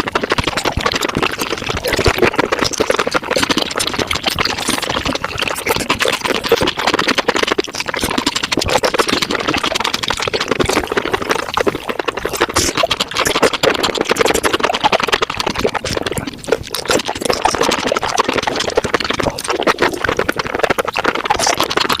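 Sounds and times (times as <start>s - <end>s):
rapid chewing and mouth clicks: 0.0s - 22.0s.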